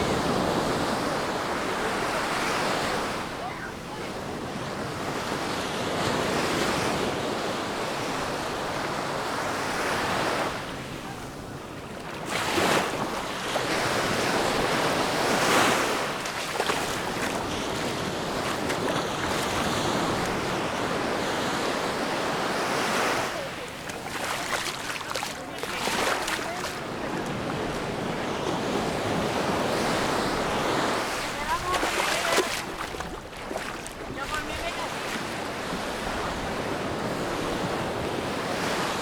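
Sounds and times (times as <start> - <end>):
waves breaking on beach: 0.0 - 39.0.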